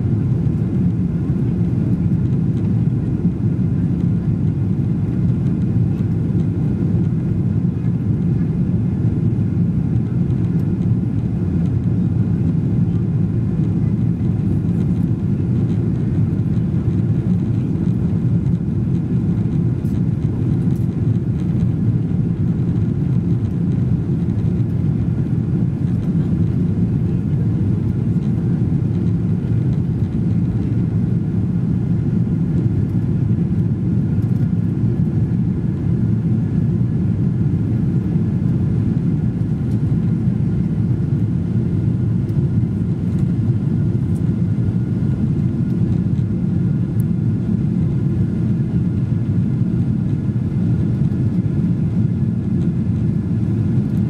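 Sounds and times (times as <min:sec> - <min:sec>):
low drone of jet engines: 0:00.0 - 0:54.0.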